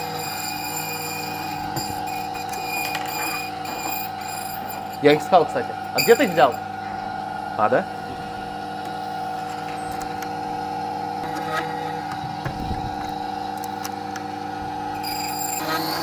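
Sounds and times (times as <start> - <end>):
key-cutting machine motor whine: 0.0 - 16.0.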